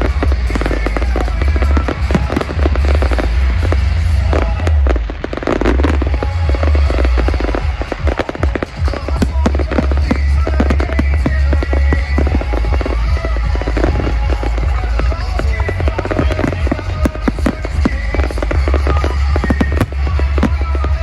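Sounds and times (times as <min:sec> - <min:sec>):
deep fireworks booms: 0:00.0 - 0:21.0
fireworks crackling and banging: 0:00.0 - 0:21.0.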